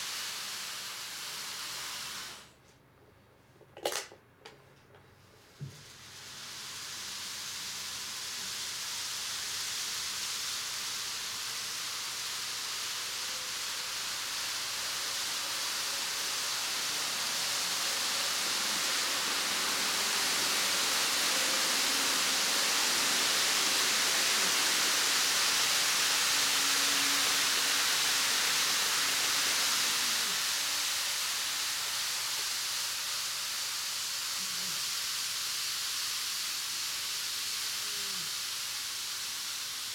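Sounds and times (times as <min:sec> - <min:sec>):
model train hissing: 0:00.0 - 0:02.6, 0:05.4 - 0:39.9.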